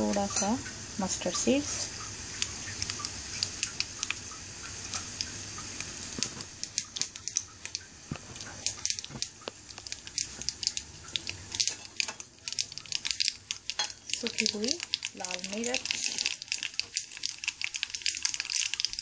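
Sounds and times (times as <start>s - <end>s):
seeds sizzling in hot oil: 0.0s - 19.0s
seeds popping: 2.4s - 19.0s.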